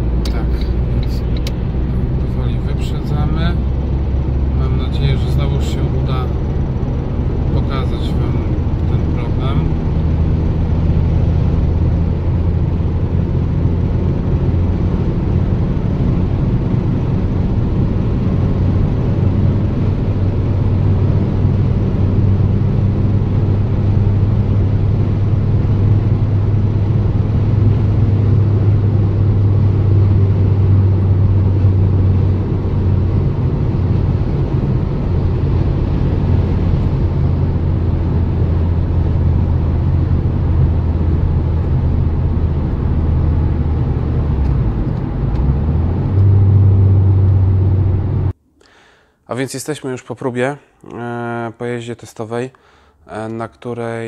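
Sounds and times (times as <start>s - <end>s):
diesel engine and road noise: 0.0s - 54.0s.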